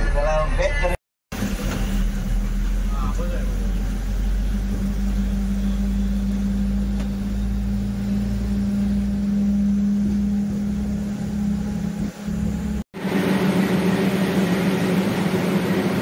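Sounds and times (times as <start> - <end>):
train hum: 0.3 - 16.0
train rumbling on track: 1.4 - 16.0.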